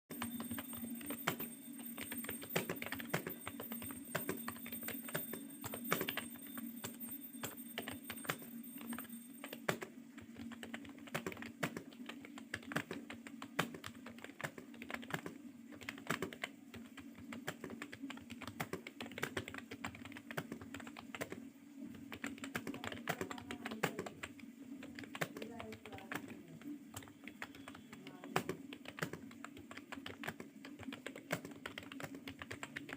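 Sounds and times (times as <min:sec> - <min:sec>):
fast typing on keyboard: 0:00.1 - 0:32.9.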